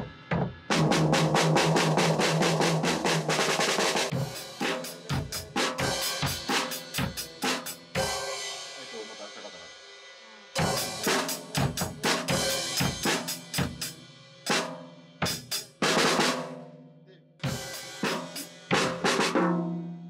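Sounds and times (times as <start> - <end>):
drum kit played with sticks: 0.0 - 20.0.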